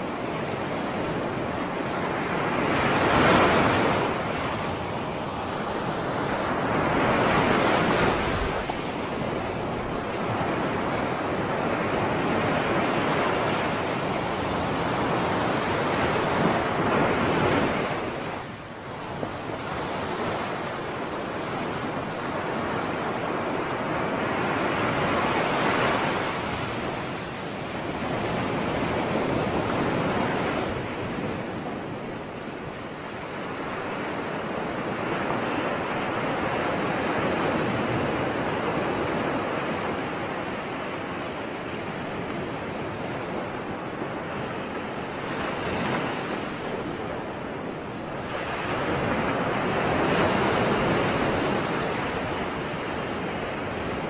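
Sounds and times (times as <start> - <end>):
sea surf washing ashore: 0.0 - 54.0.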